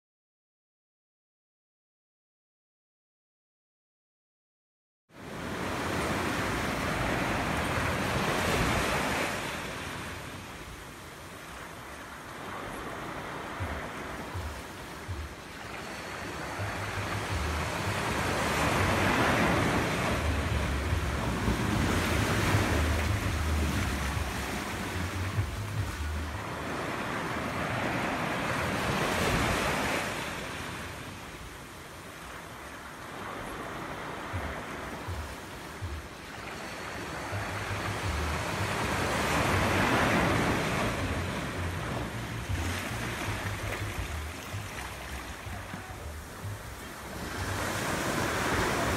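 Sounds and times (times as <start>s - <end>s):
surf washing onto beach: 5.2s - 48.9s
wind rumbling on microphone: 5.2s - 48.9s.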